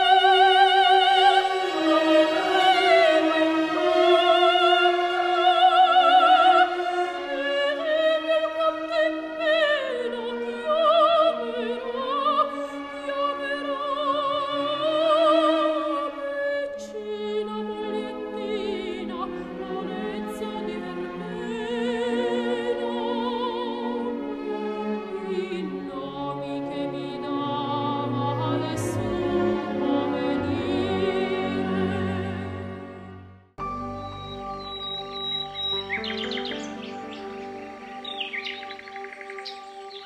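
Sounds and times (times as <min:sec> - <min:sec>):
operatic voice singing: 0:00.0 - 0:33.2
orchestral accompaniment: 0:00.0 - 0:40.0.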